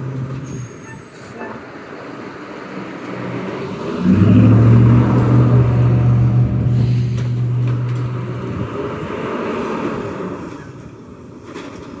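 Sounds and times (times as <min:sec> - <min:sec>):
garbage truck engine revving: 0:00.0 - 0:00.9, 0:01.8 - 0:10.8.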